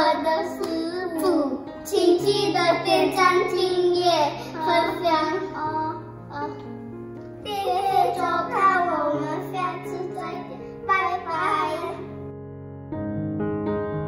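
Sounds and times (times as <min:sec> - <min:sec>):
background music: 0:00.0 - 0:14.0
piano tune: 0:00.0 - 0:14.0.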